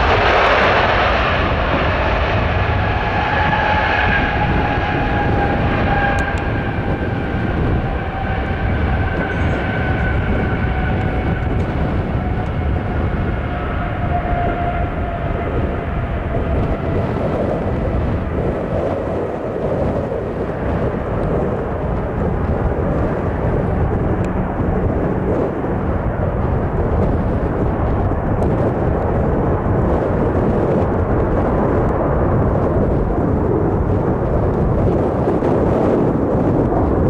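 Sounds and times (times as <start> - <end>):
jet engines running: 0.0 - 37.0.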